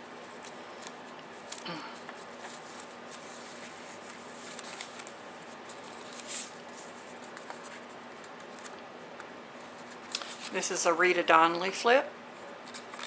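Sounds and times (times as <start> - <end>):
paper pages rustling: 0.2 - 10.6, 12.6 - 13.0.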